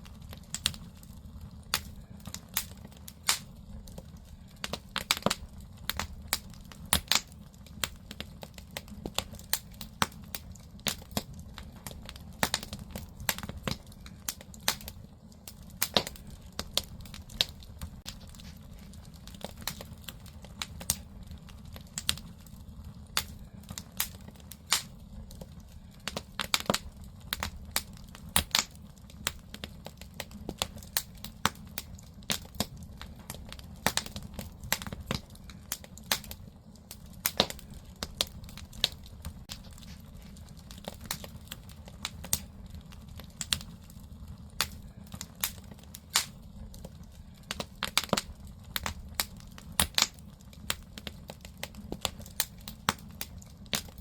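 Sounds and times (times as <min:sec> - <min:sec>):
firewood crackling and popping: 0:00.0 - 0:54.0
low rumble of fire: 0:00.0 - 0:54.0.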